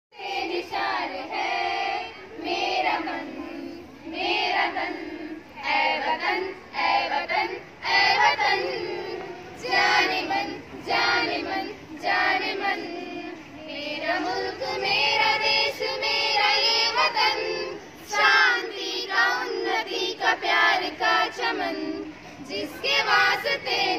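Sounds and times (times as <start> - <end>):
girls singing in unison: 0.1 - 23.9.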